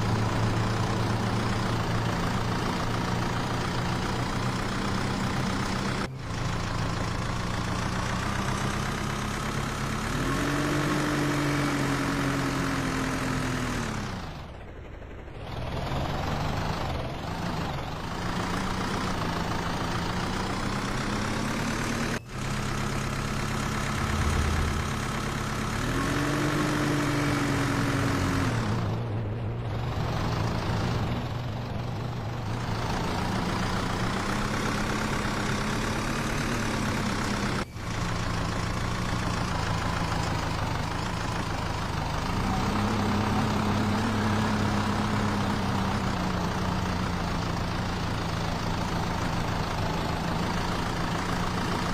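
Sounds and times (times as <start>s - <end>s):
tractor engine revving: 0.0s - 51.9s.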